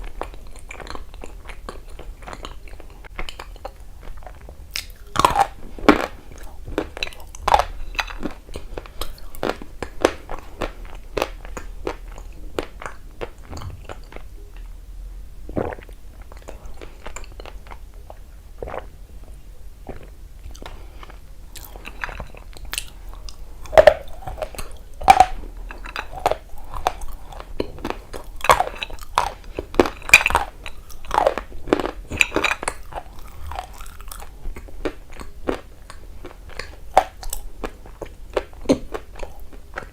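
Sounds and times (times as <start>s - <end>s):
person chewing crunchy clay: 0.0s - 14.8s, 15.5s - 39.9s.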